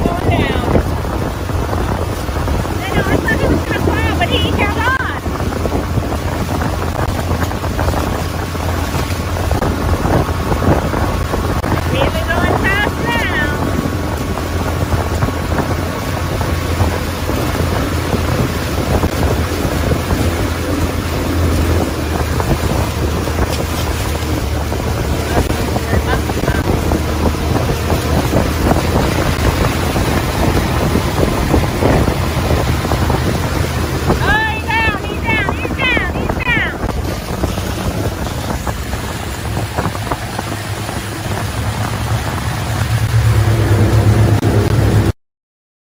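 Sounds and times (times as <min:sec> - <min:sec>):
motorboat engine drone: 0:00.0 - 0:45.1
wind buffeting microphone: 0:00.0 - 0:45.1
rush of boat wake: 0:00.0 - 0:45.2.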